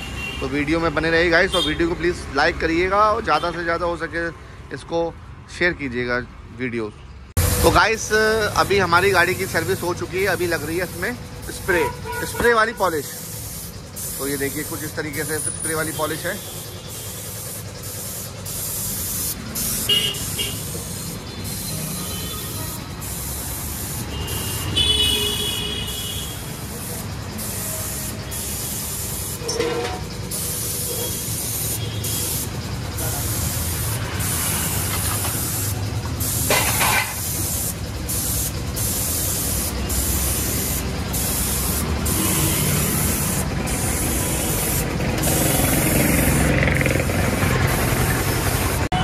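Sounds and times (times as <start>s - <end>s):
low rumble of road traffic: 0.0s - 49.0s
spray gun hissing: 7.4s - 49.0s.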